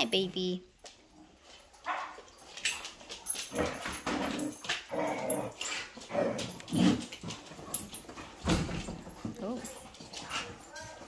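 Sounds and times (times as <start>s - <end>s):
dogs play-growling: 1.1s - 10.8s.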